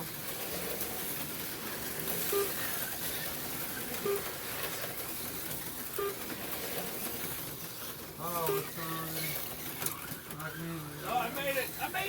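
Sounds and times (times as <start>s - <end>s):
slot car motors hissing: 0.0s - 12.0s.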